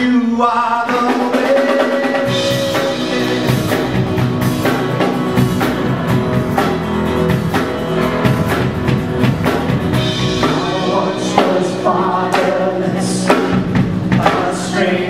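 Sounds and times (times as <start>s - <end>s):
guitar: 0.0s - 15.0s
worship band playing: 0.0s - 15.0s
drum kit steady beat: 0.9s - 15.0s.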